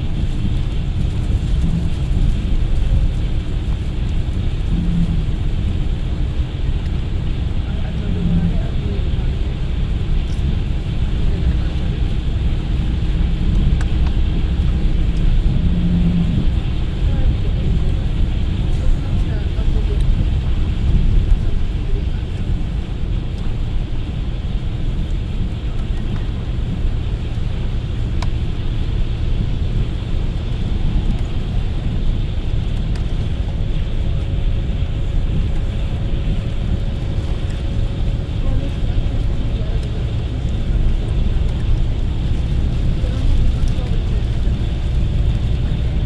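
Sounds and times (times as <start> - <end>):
engine and tyre rumble: 0.0 - 46.0
faint steady whine: 0.0 - 46.0.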